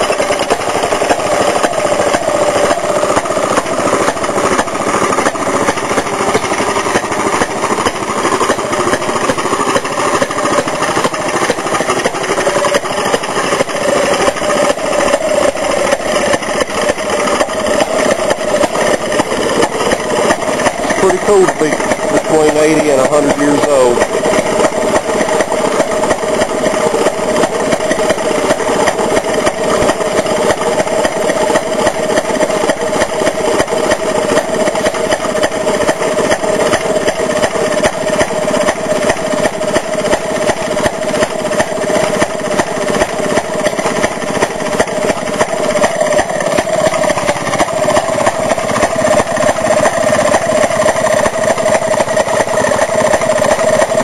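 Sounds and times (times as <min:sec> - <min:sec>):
washing machine engine running: 0:00.0 - 0:54.0.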